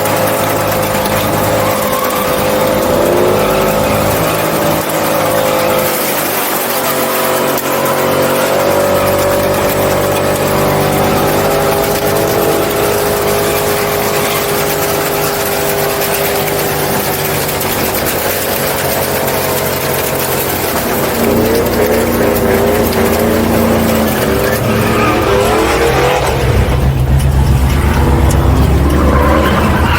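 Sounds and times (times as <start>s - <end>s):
truck engine running at high revs: 0.0s - 29.9s.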